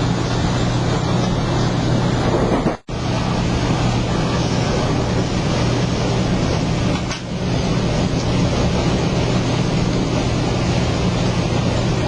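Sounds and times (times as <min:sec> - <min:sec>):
constant low hum: 0:00.0 - 0:12.0
train rumbling inside coach: 0:00.0 - 0:12.0.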